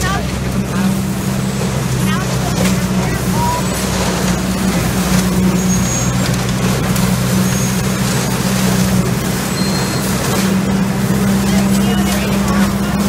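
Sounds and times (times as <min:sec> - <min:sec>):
leaf vacuum droning: 0:00.0 - 0:13.0.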